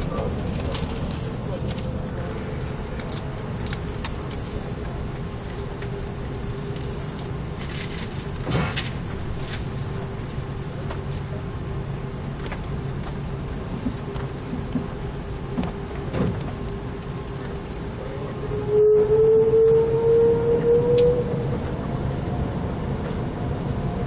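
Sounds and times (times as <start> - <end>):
aircraft engine and rolling rumble: 0.0 - 24.0.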